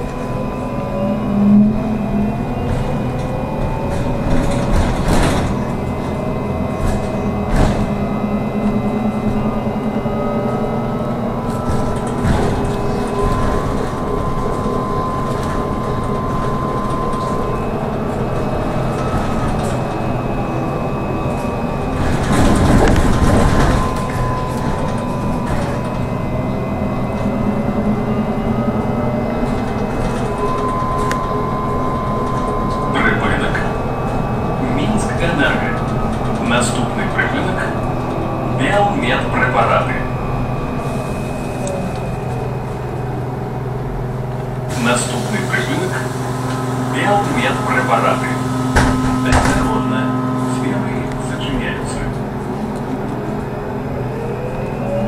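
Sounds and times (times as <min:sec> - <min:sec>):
electric drive whining: 0:00.0 - 0:55.0
road rumble: 0:00.0 - 0:55.0.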